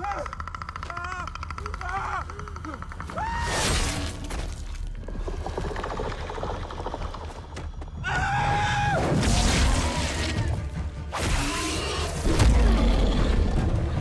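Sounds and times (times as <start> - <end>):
dramatic film score: 0.0 - 14.0.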